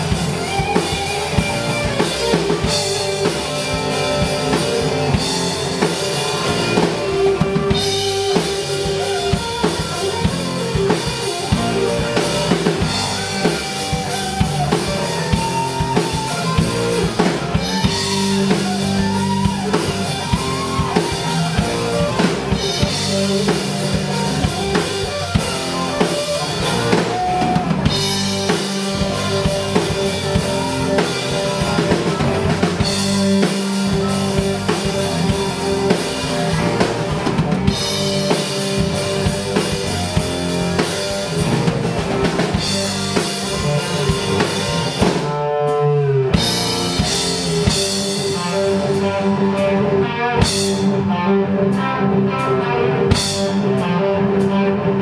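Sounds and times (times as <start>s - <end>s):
blues-rock band playing: 0.0s - 55.0s
guitar bending notes: 0.0s - 55.0s.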